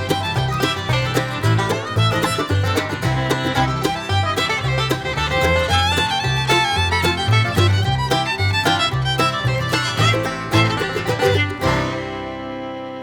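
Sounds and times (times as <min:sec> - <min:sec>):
bass line: 0:00.0 - 0:13.0
fiddle melody: 0:00.0 - 0:13.0
plucked strings: 0:00.0 - 0:13.0.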